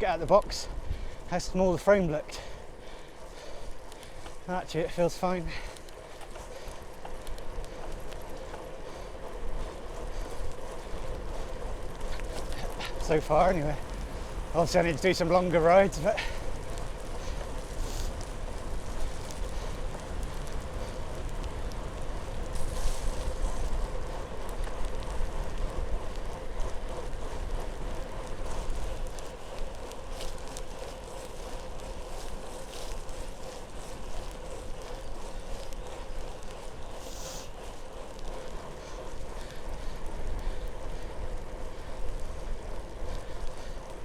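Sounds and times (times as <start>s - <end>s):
rain ticks: 0.0s - 44.0s
wind buffeting microphone: 0.0s - 44.0s.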